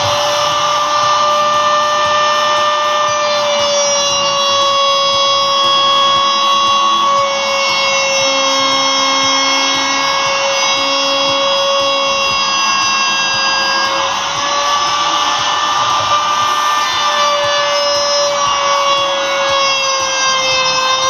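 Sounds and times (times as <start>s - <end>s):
power tool motor whining: 0.0s - 21.0s.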